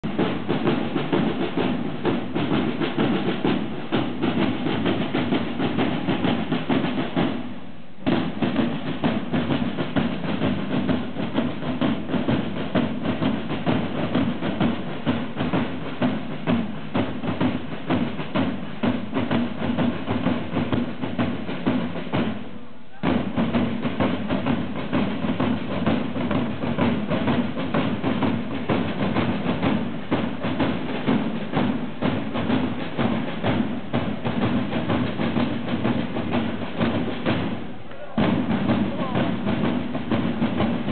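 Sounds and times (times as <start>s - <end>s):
marching side drums: 0.0s - 40.9s.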